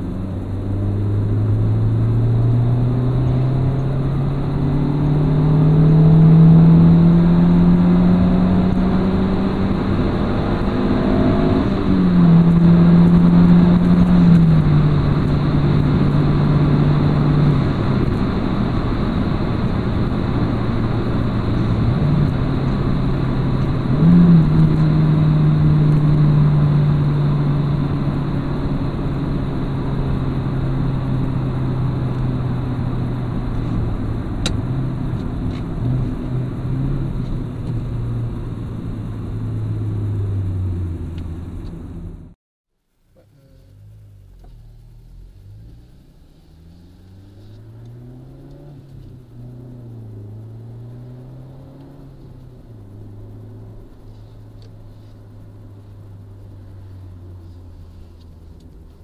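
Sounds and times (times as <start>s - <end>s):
car engine revving from inside cabin: 0.0s - 42.3s, 43.4s - 55.4s.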